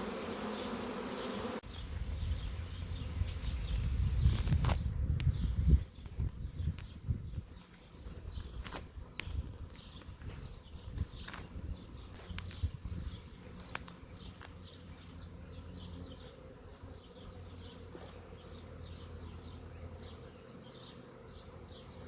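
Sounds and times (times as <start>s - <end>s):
bees buzzing: 0.0s - 4.3s, 7.6s - 22.0s.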